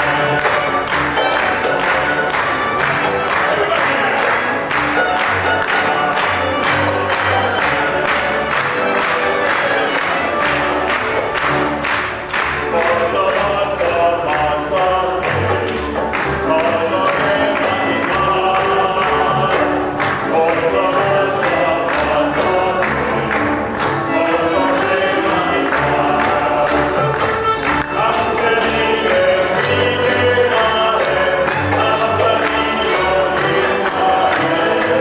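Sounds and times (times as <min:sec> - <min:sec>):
group singing with accompaniment: 0:00.0 - 0:35.0.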